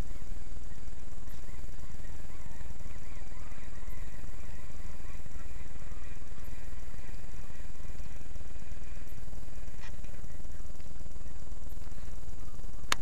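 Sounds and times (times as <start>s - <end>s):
faint high bird calls: 0.0s - 13.0s.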